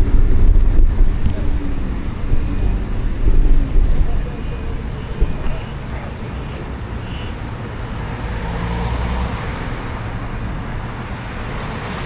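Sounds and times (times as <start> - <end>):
traffic rumble of passing cars: 0.0 - 12.0.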